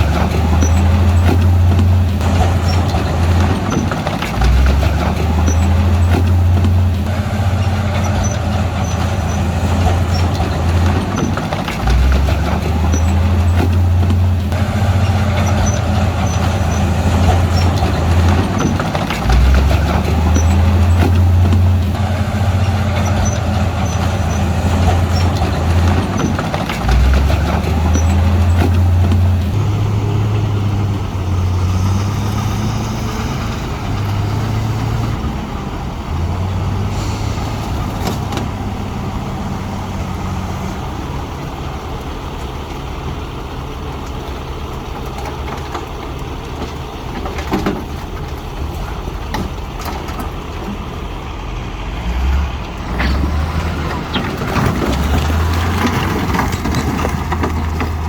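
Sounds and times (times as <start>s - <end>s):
diesel earthmoving machinery: 0.0s - 58.0s.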